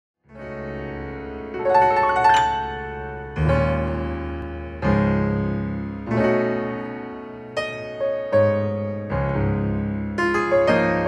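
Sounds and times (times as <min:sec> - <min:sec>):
grand piano chords: 0:00.3 - 0:11.0.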